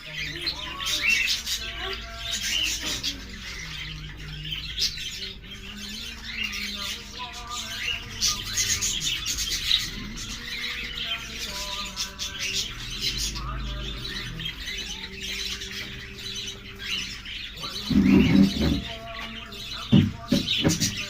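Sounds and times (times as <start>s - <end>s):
budgerigars chattering: 0.0s - 21.0s.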